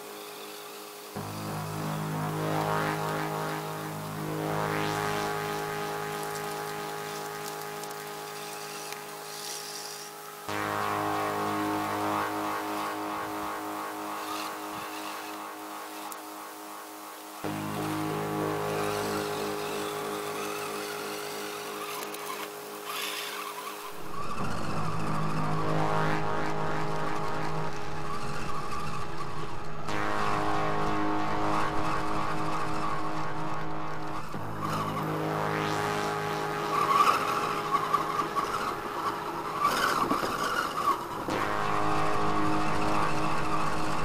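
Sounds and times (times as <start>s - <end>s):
background music: 0.0s - 44.0s.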